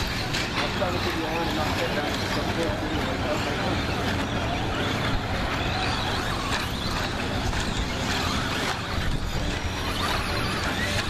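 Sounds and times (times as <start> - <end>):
rc truck motors whining: 0.0 - 11.0.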